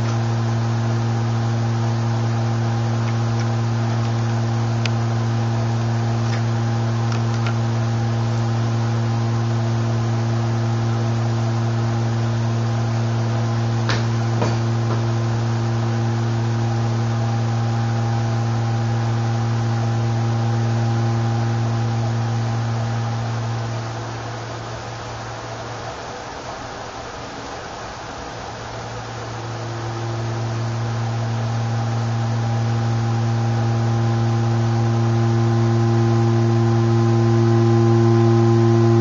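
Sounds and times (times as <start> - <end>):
steady low sine tone: 0.0 - 39.0.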